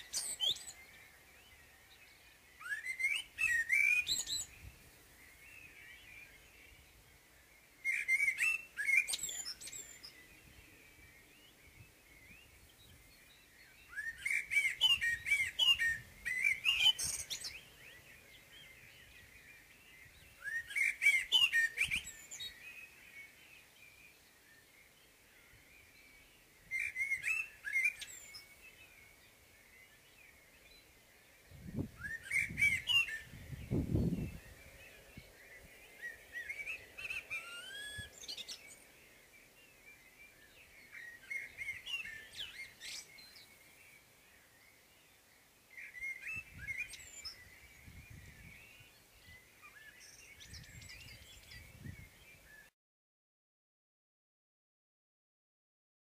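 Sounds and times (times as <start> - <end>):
blackbird singing: 0.0 - 52.7.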